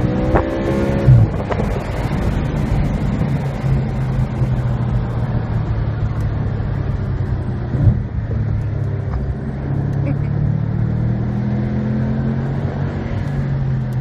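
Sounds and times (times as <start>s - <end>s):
car engine running: 0.0s - 14.0s
road and tyre noise: 0.0s - 14.0s.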